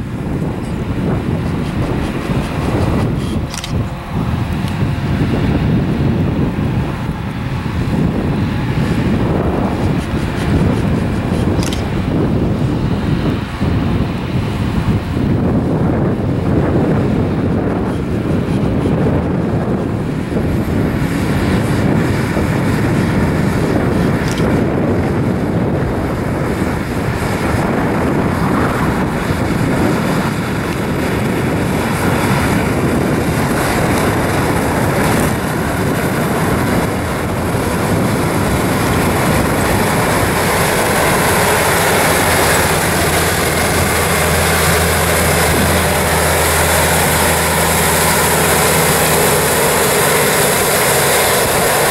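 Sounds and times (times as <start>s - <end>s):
broad rushing noise: 0.0s - 51.9s
tractor diesel engine running: 0.0s - 51.9s.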